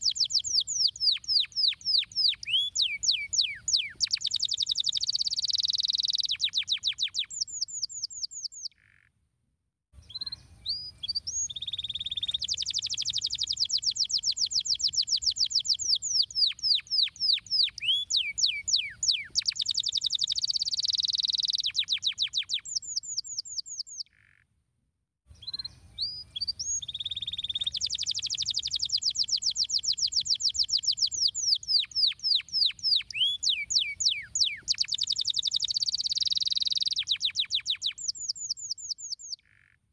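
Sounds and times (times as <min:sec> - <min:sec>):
canary singing trills and whistles: 0:00.0 - 0:08.8, 0:10.0 - 0:24.3, 0:25.3 - 0:39.7.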